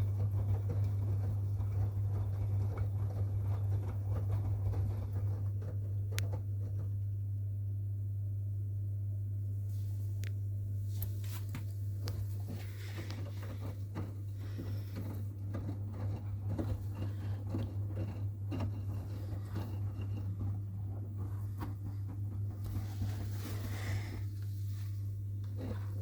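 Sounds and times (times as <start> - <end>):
laundry sloshing in drum: 0.0 - 6.8, 10.9 - 26.0
washing machine humming: 0.0 - 26.0.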